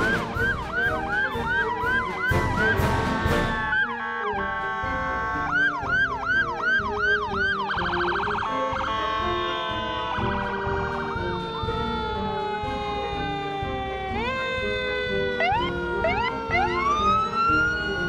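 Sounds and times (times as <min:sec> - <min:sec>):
fast siren warble: 0:00.0 - 0:18.0
siren wail sliding down: 0:00.0 - 0:18.0
siren yelp: 0:00.0 - 0:18.0.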